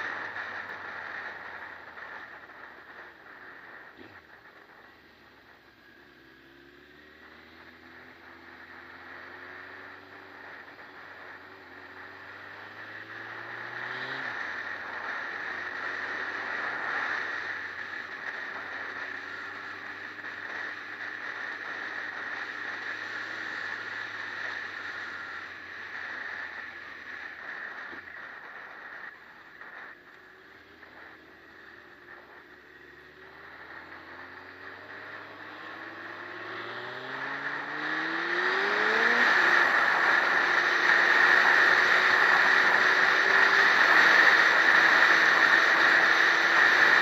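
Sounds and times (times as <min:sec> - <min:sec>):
motorcycle engine running: 0:00.0 - 0:47.0
wind and road noise: 0:00.0 - 0:47.0.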